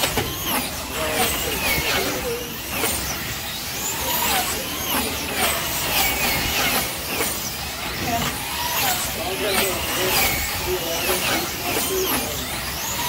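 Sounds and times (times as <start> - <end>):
slot car electric motors whining: 0.0 - 13.0.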